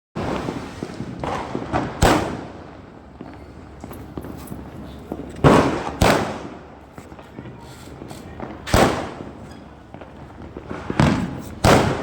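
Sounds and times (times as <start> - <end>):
firecracker bangs: 0.2 - 12.0.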